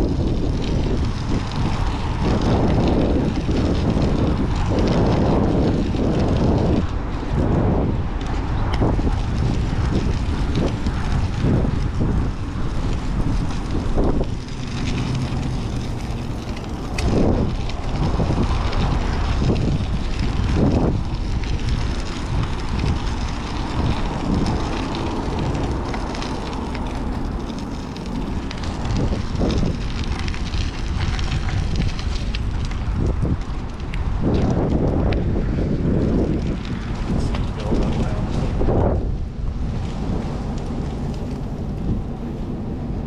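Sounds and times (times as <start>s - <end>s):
road and traffic noise: 0.0s - 43.0s
wind rushing over microphone: 0.0s - 43.0s.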